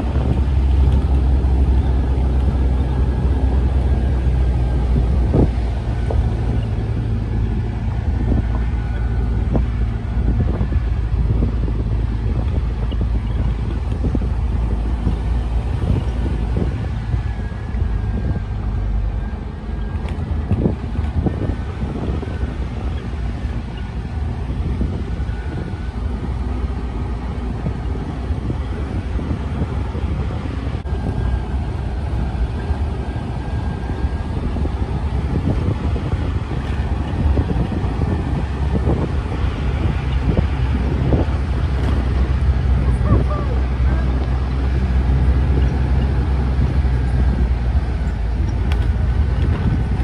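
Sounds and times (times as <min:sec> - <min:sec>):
vehicle engine and tyres rumbling: 0:00.0 - 0:50.0
wind buffeting microphone: 0:00.0 - 0:50.0.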